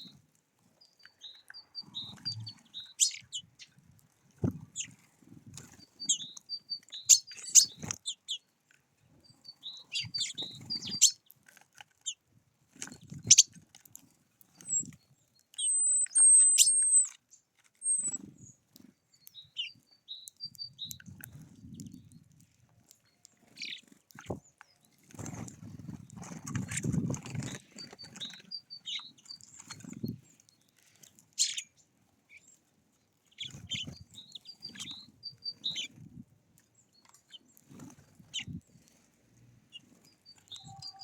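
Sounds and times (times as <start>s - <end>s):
songbirds chirping and twittering: 0.0s - 41.0s.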